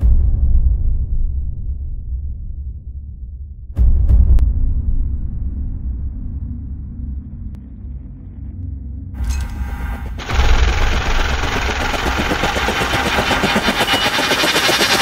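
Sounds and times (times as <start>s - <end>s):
low rumble: 0.0s - 14.3s.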